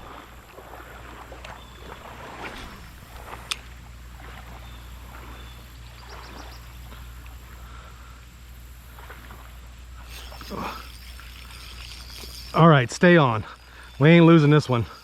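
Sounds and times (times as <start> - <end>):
faint water splashing: 0.0 - 15.0
steady low rumble: 0.0 - 15.0.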